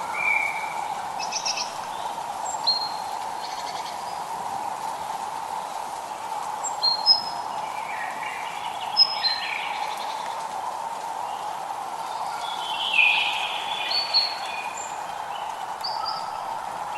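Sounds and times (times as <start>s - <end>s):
birds chirping: 0.0s - 16.9s
light rain hiss: 0.0s - 16.9s.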